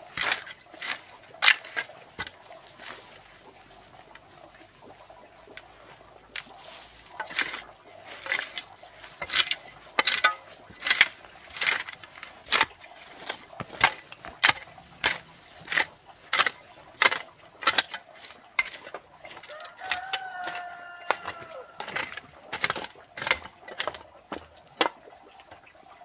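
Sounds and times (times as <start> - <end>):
hoe chopping and scraping soil: 0.0 - 25.8.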